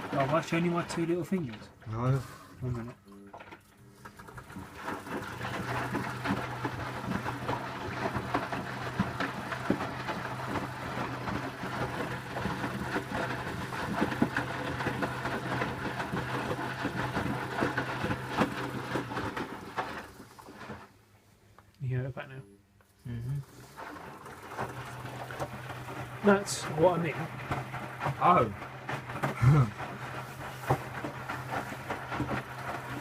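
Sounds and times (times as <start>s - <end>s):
washing machine rattling: 0.0s - 1.8s, 3.4s - 20.7s, 23.7s - 33.0s
washing machine motor humming: 0.0s - 21.0s, 23.1s - 33.0s.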